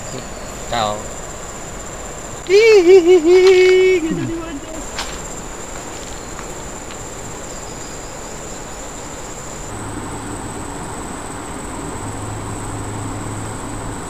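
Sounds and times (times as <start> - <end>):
high-pitched insect trill: 0.0 - 14.0
river water flowing: 0.0 - 14.0.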